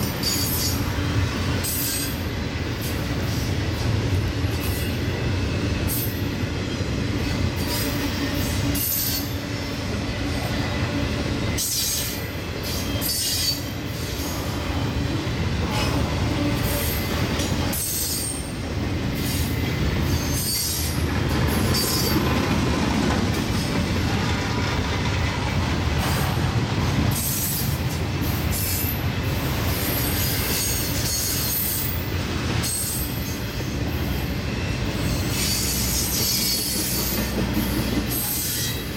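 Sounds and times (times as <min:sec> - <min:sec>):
freight train rumbling past: 0:00.0 - 0:38.9
wheels squealing on rails: 0:00.0 - 0:38.9.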